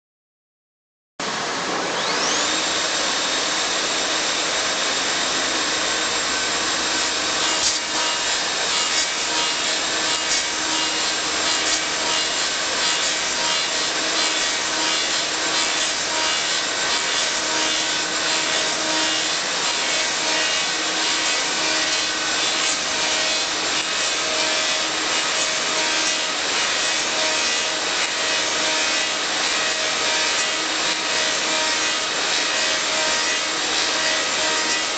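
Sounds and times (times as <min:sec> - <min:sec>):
wood lathe running with high whine: 0:01.2 - 0:34.9.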